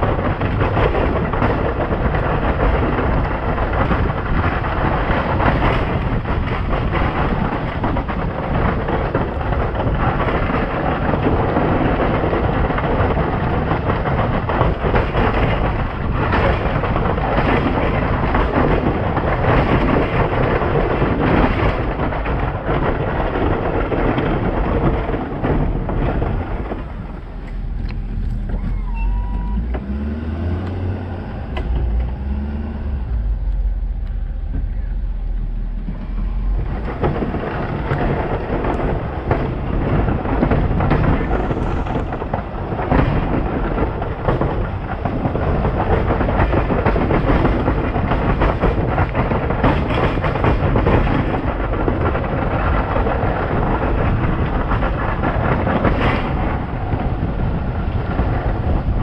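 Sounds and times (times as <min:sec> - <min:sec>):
plow scraping and rattling: 0:00.0 - 0:59.0
truck engine rumble: 0:00.0 - 0:59.0.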